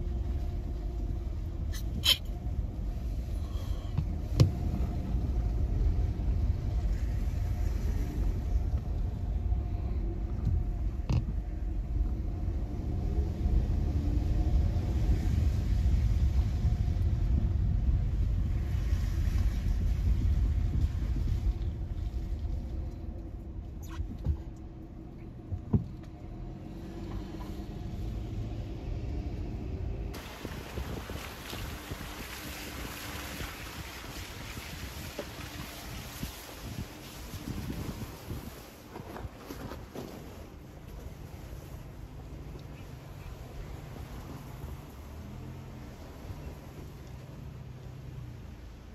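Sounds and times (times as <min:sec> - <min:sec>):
road and engine rumble: 0:00.0 - 0:48.9.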